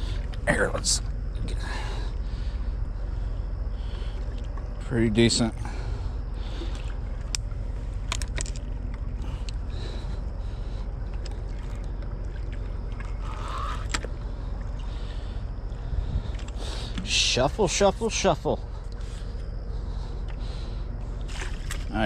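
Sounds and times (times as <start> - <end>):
ship engines rumbling: 0.0 - 22.0.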